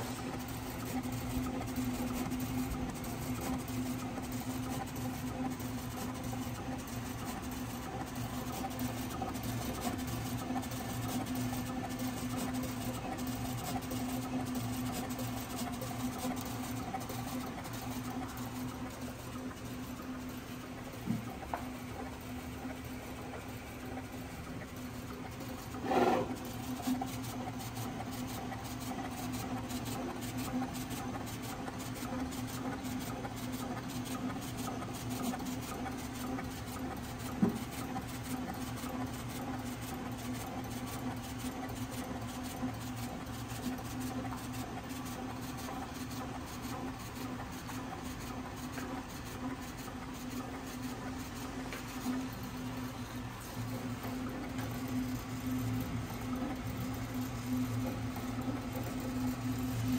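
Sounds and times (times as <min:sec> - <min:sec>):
cutting plotter motor hum: 0:00.0 - 0:59.9.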